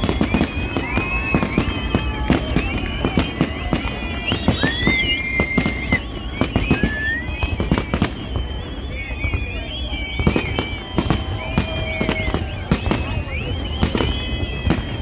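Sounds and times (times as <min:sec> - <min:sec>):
fireworks bangs and crackles: 0:00.0 - 0:15.0
high whistling fireworks: 0:00.0 - 0:15.0.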